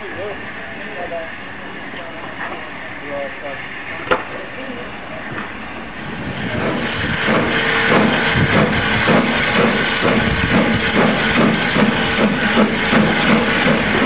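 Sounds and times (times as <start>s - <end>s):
steam hissing: 0.0s - 14.0s
steam locomotive chuffing: 0.0s - 14.0s.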